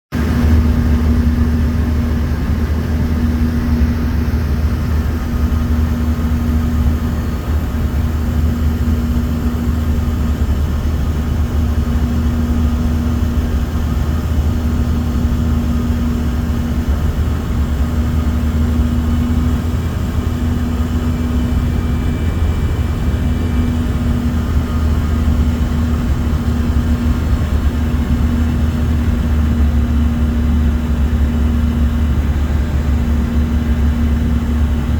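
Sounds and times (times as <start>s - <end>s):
airliner engine rumble: 0.1s - 34.9s
droning hum: 0.2s - 34.9s.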